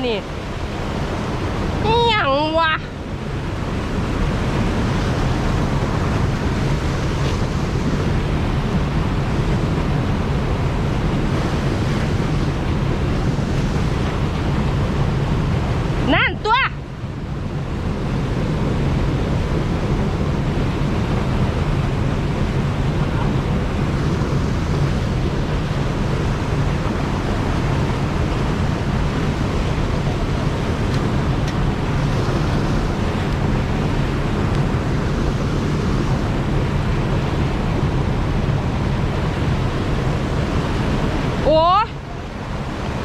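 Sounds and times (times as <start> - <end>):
water rushing over weir: 0.0 - 43.0.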